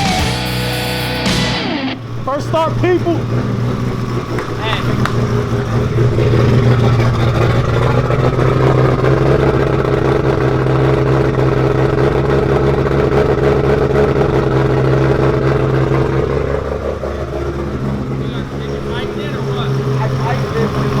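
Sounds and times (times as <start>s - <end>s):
car engine choppy idle: 0.0s - 21.0s.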